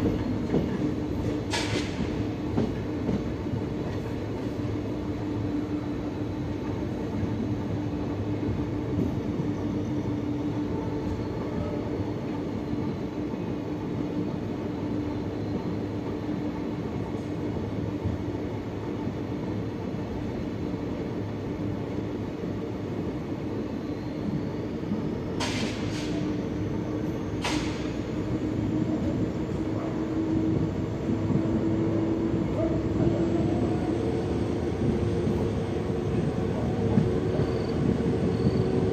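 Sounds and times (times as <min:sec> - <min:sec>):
train coach rumbling on track: 0:00.0 - 0:38.9.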